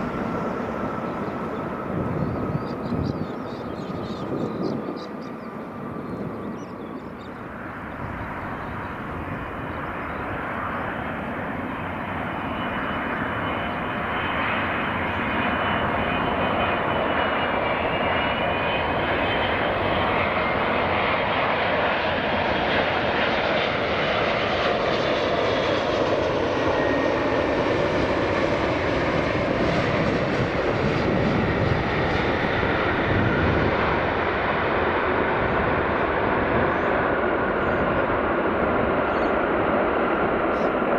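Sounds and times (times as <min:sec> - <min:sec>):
faint engine whine: 0:00.0 - 0:40.9
jet engines rushing: 0:00.0 - 0:40.9.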